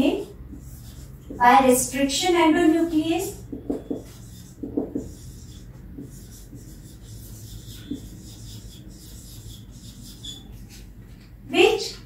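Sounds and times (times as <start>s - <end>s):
marker writing on whiteboard: 0.0s - 12.0s.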